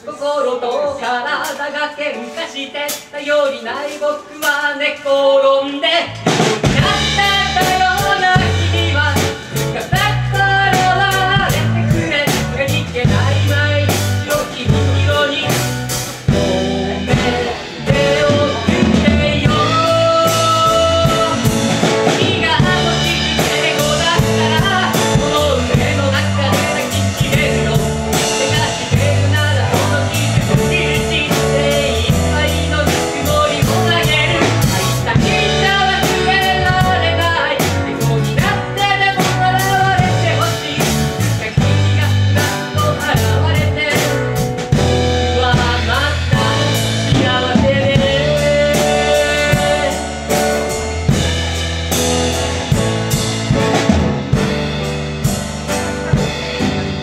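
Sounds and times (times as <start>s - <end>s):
person singing: 0.0s - 52.1s
keyboard: 0.0s - 57.0s
drum kit steady beat: 1.3s - 5.2s, 6.0s - 57.0s
guitars: 6.0s - 57.0s.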